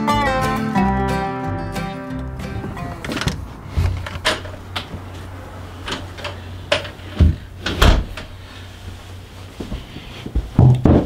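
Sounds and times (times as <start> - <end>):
light knocks and steps: 2.1 - 11.0.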